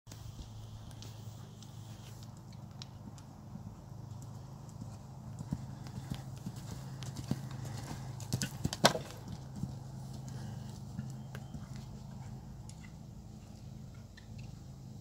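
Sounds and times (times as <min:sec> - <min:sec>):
horse hoofbeats on sand: 0:00.2 - 0:15.0.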